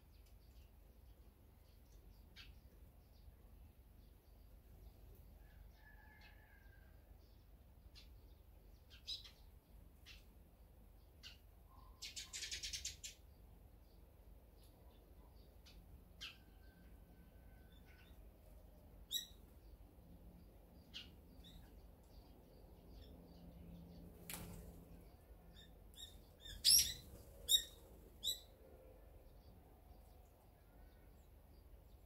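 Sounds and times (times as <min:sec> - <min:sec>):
sparrows chirping: 0:00.0 - 0:06.6, 0:07.2 - 0:32.0.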